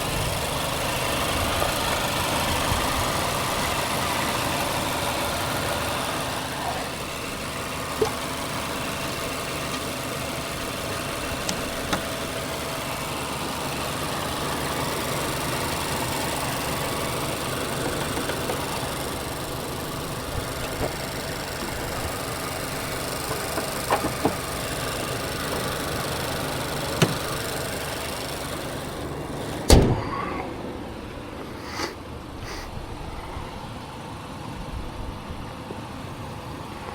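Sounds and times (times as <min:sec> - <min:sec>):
car engine running: 0:00.0 - 0:36.9.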